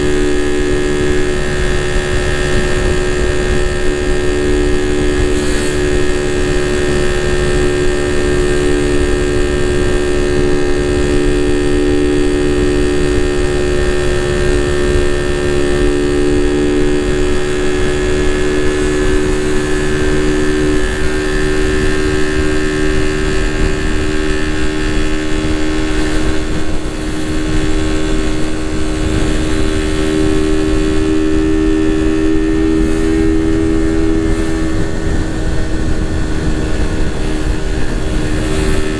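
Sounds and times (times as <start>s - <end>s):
motorcycle engine running: 0.0s - 38.9s
road rumble: 0.0s - 38.9s
wind on microphone: 0.0s - 38.9s.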